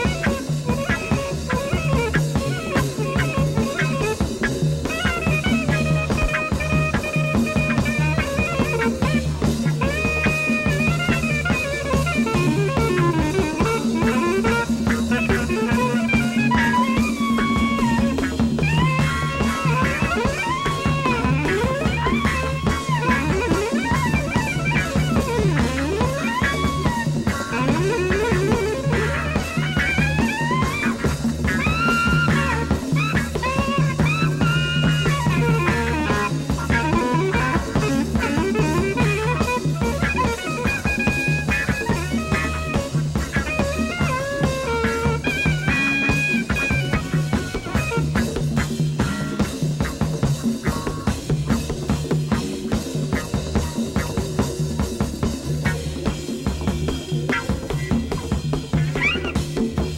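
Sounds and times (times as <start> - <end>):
soprano saxophone soloing: 0.0 - 49.5
drum kit groove: 0.0 - 59.9
electric bass: 0.0 - 59.9
electric guitars: 0.0 - 59.9.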